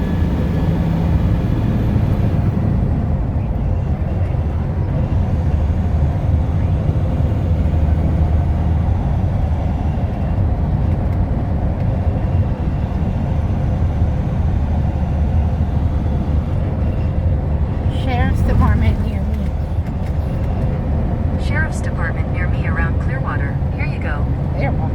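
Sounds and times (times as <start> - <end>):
vehicle engine and road rumble: 0.0 - 24.9.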